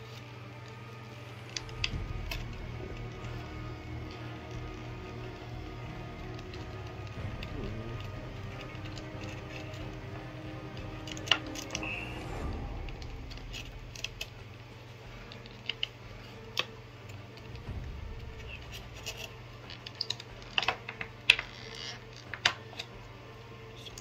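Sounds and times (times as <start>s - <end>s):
low steady hum: 0.0s - 22.2s.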